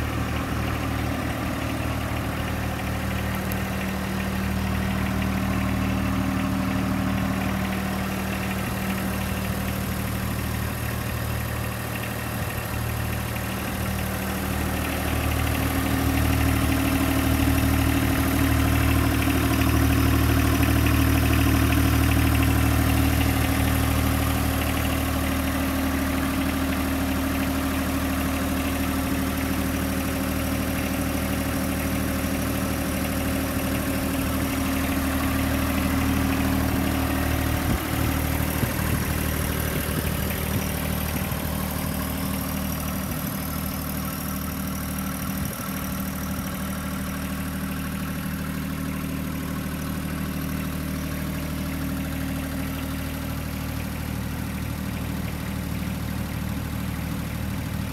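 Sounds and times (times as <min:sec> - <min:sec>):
diesel tractor engine idling: 0:00.0 - 0:57.9.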